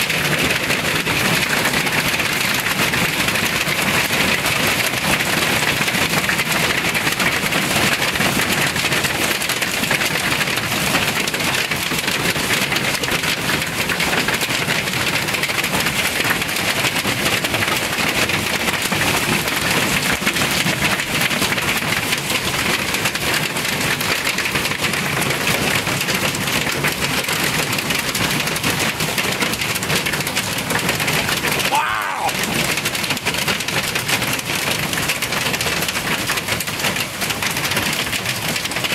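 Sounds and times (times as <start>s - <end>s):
hail clattering on surfaces: 0.0s - 38.9s.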